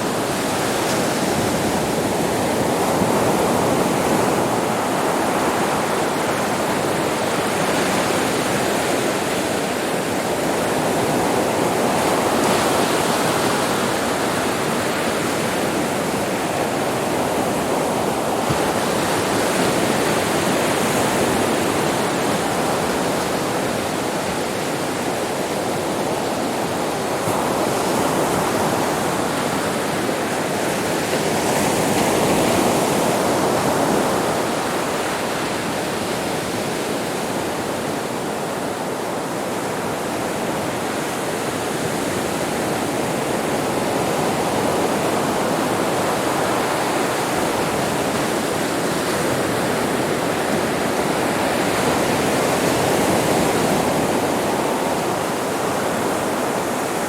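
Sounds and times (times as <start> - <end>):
sea waves washing onto beach: 0.0 - 57.0.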